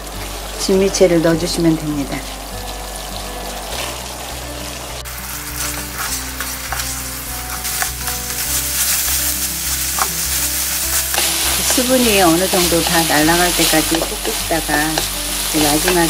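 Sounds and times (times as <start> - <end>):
sauce sizzling in a frying pan: 0.0 - 16.0
squid sizzling while stirred: 0.0 - 16.0.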